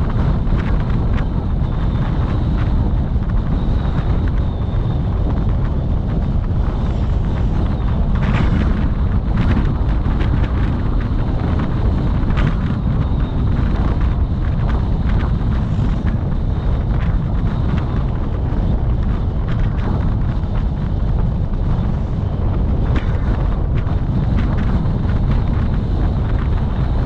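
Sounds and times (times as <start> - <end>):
vehicle road rumble: 0.0 - 27.0
wind buffeting microphone: 0.0 - 27.0.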